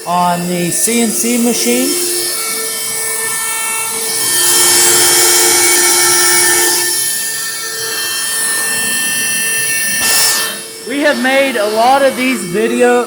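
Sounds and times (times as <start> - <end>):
router bit cutting wood: 0.0 - 13.0
router spindle whining: 0.0 - 13.0.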